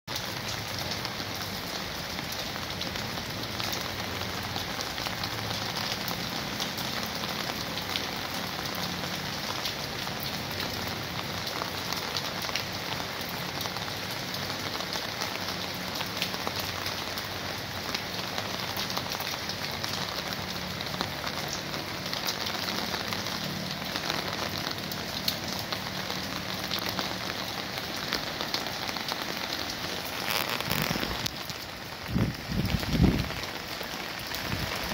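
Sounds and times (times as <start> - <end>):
rain falling on plants and ground: 0.1 - 34.9.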